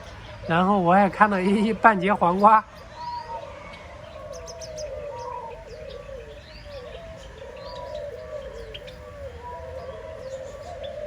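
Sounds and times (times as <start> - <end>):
high bird chirps: 0.0 - 11.0
low wavering bird warble: 0.0 - 11.0.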